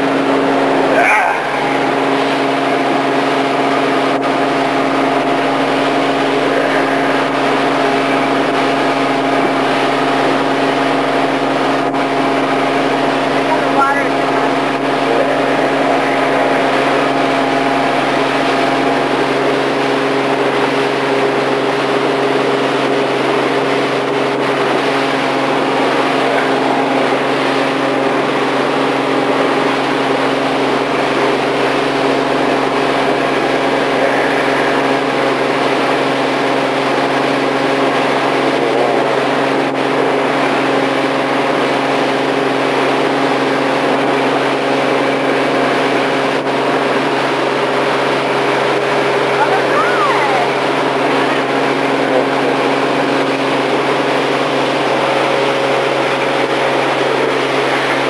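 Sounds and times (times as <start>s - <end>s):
boat engine drone: 0.0s - 58.0s.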